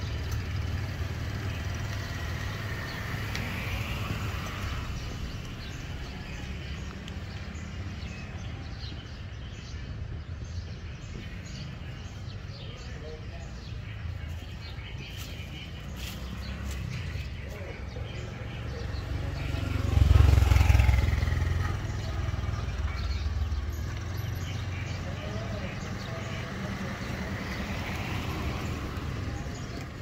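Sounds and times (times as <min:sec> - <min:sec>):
small birds chirping: 0:00.0 - 0:30.0
traffic rumble: 0:00.0 - 0:30.0.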